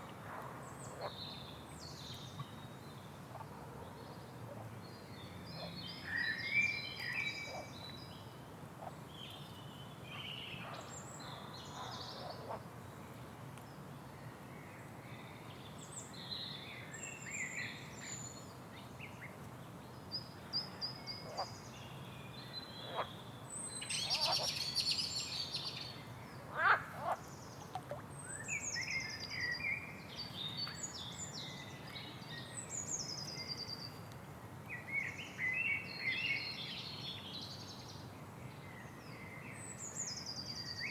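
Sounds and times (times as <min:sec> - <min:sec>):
faint background hiss: 0:00.0 - 0:40.9
songbirds chirping: 0:00.0 - 0:40.9.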